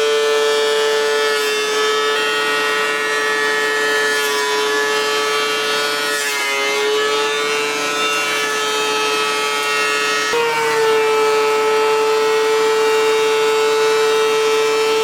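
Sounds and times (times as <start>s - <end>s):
electric wood planer whining: 0.0s - 15.0s.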